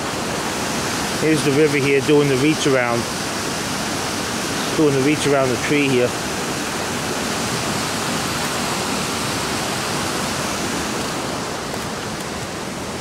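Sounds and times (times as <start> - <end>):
river and waterfall rushing: 0.0 - 13.0.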